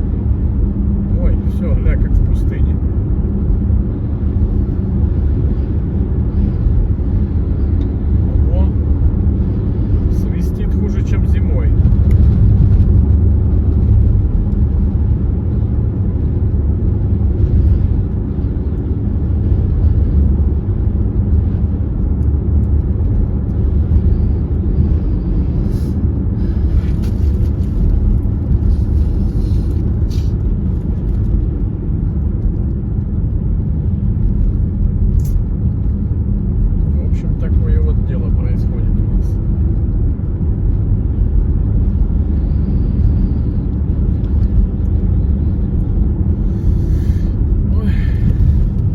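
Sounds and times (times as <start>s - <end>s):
car engine and road noise: 0.0s - 48.9s
wind buffeting car: 0.0s - 48.9s.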